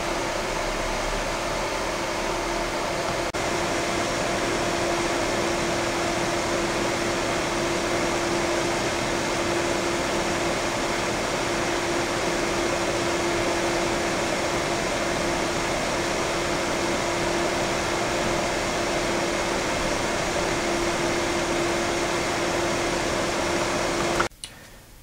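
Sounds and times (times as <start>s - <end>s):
computer fan whirring: 0.0s - 25.0s.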